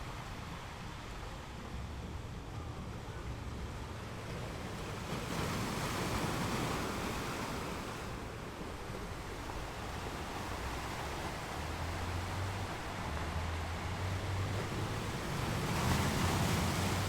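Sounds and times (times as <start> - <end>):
ocean waves on shore: 0.0 - 17.0.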